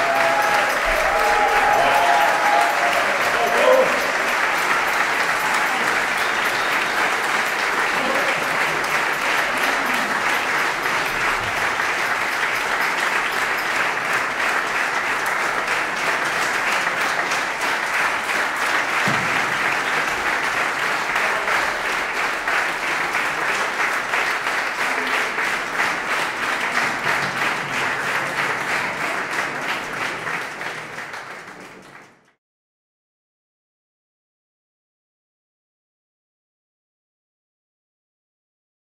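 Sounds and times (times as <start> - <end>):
audience applauding: 0.0 - 32.4.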